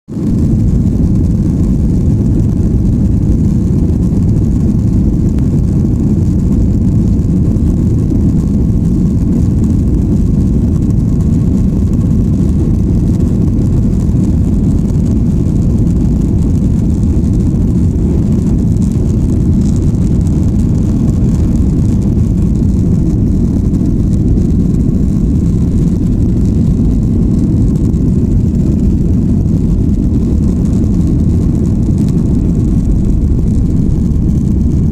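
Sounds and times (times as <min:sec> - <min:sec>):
jet airliner engines rumbling: 0:00.1 - 0:34.9.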